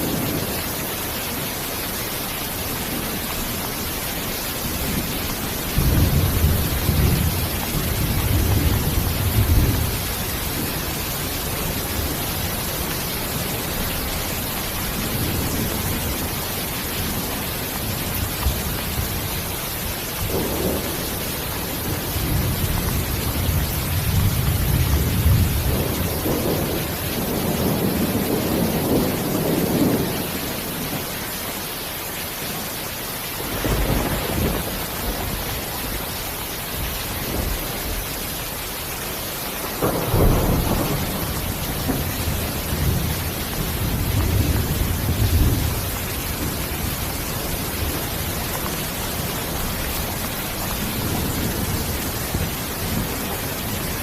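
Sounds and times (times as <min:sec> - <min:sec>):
rain hissing: 0:00.0 - 0:54.0
thunder rumbling: 0:02.7 - 0:31.1, 0:33.4 - 0:54.0.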